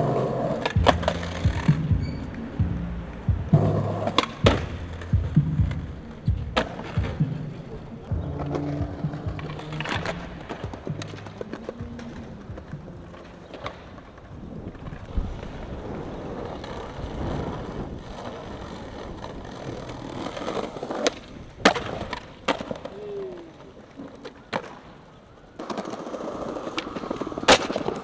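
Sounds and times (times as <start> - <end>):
skateboard wheels on stone paving: 0.0 - 28.0
skateboard pops and slaps: 3.5 - 5.8, 6.5 - 7.6, 8.4 - 28.0.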